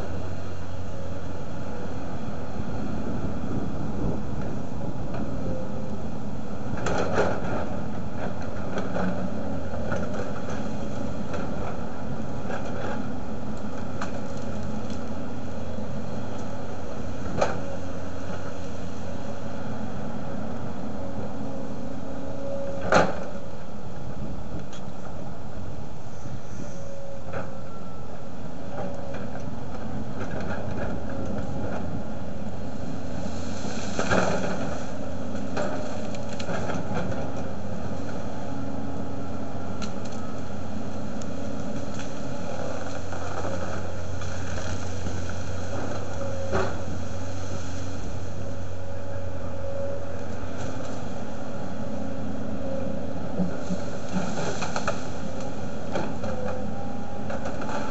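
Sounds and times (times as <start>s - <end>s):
excavator diesel engine running: 0.0s - 57.9s
faint whine: 0.0s - 57.9s.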